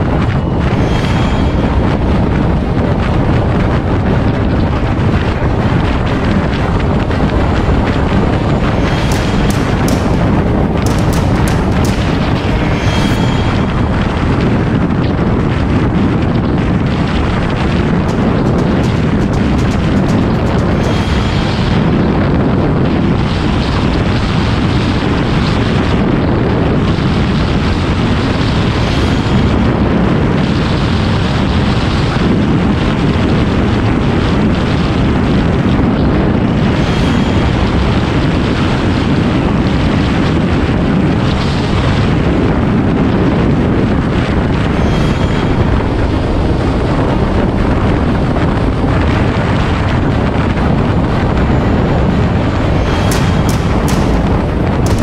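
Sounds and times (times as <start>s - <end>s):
road noise: 0.0s - 55.0s
wind rush over microphone: 0.0s - 55.0s.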